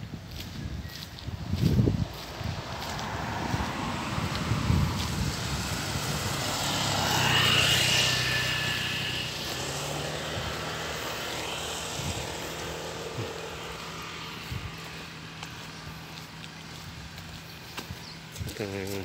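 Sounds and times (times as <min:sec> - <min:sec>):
passing engine: 0:01.3 - 0:19.0.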